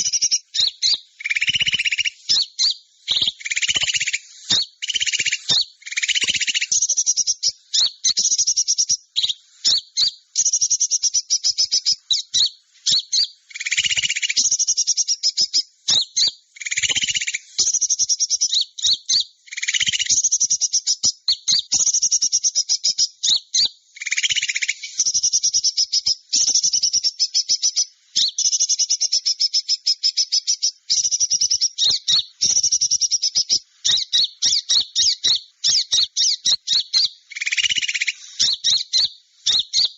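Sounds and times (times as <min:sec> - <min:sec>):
high-pitched bird chirping trills: 0:00.0 - 0:39.9
lower buzzy bird call: 0:00.0 - 0:39.9.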